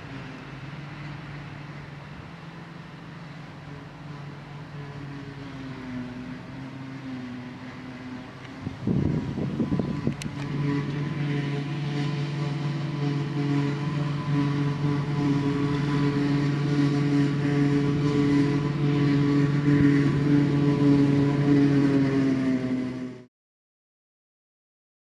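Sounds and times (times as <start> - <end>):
harvester machinery drone: 0.0 - 23.3.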